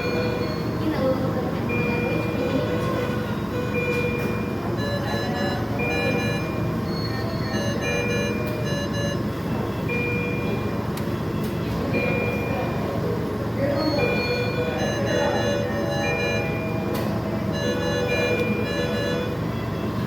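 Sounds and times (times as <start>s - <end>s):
medical alarm beeps: 0.0s - 0.8s, 1.7s - 13.0s, 13.6s - 20.0s.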